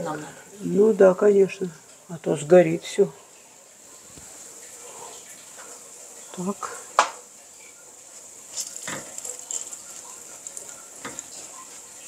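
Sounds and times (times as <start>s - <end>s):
flatbread sizzling in frying pan: 0.0s - 12.0s.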